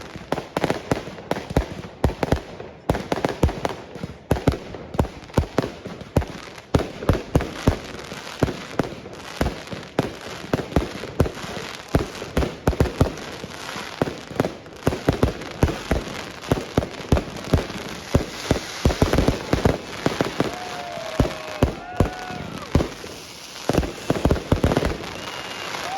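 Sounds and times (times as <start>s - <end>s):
fireworks bangs and crackling: 0.0s - 25.9s.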